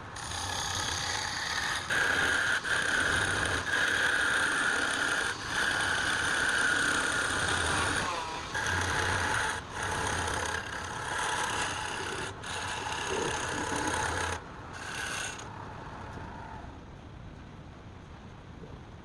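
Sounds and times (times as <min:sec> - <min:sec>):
woodworking machine cutting wood: 0:00.0 - 0:15.5
motor hum: 0:00.0 - 0:16.4.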